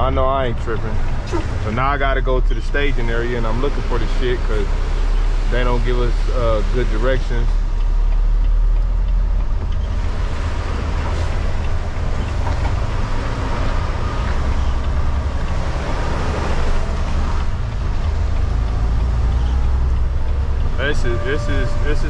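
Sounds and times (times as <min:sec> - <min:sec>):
diesel truck engine rumble: 0:00.0 - 0:22.0
road noise hiss: 0:02.6 - 0:22.0.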